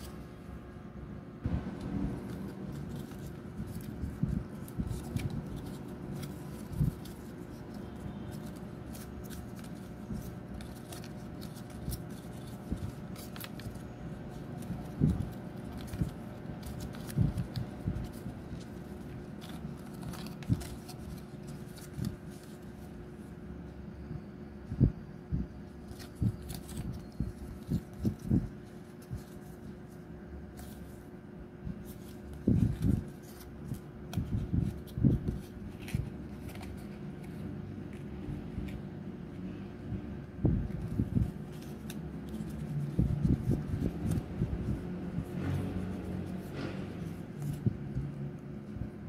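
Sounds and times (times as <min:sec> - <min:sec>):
faint steady hum: 0:00.0 - 0:49.0
cardstock crinkling and creasing: 0:01.5 - 0:23.2, 0:25.7 - 0:39.0, 0:40.3 - 0:49.0.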